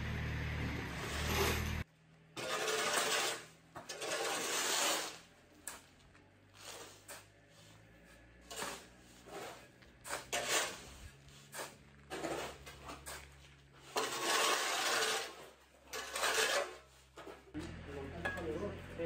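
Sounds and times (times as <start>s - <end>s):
shovel scraping gravel: 1.0s - 17.6s.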